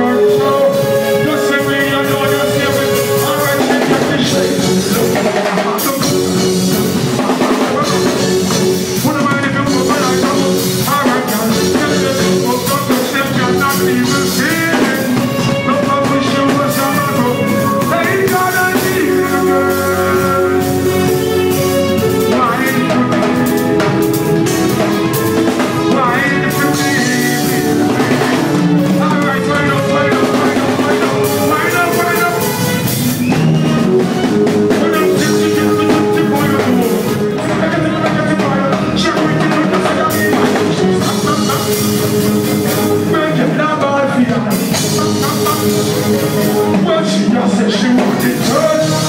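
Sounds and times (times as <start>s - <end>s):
drum kit playing: 0.0s - 49.0s
live band music: 0.0s - 49.0s.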